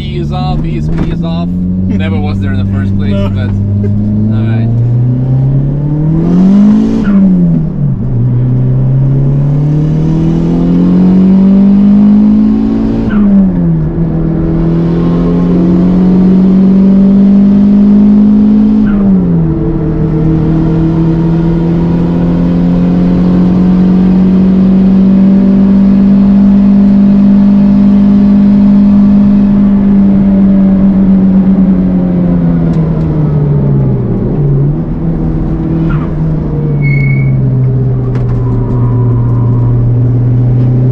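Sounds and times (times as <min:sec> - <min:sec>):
car engine at full throttle: 0:00.0 - 0:40.9.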